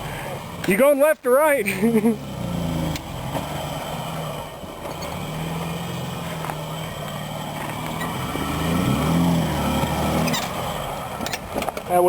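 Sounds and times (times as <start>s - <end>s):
truck engine at low revs: 0.0s - 12.0s.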